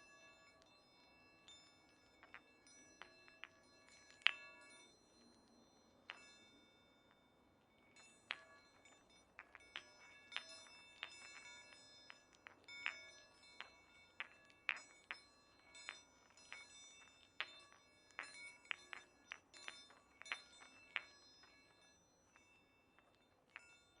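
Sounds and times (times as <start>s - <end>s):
metal balls clinking: 0.0s - 6.4s, 7.8s - 24.0s.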